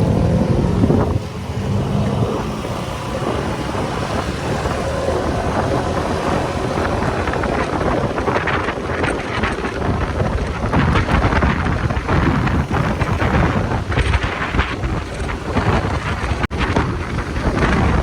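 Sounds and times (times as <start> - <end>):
motorcycle engine: 0.0 - 18.0
road noise: 0.0 - 18.0
wind buffeting microphone: 0.0 - 18.0.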